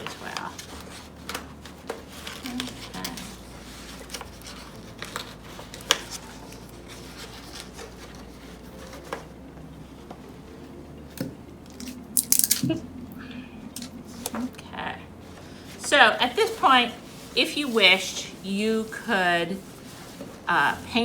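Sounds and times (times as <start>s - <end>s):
paper rustling and crinkling: 0.0s - 12.8s, 13.7s - 21.0s.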